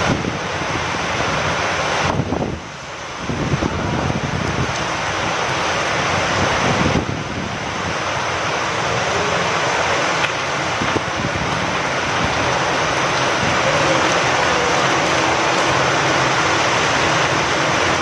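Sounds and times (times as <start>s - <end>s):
rain falling: 0.0s - 18.0s
wind: 0.0s - 18.0s.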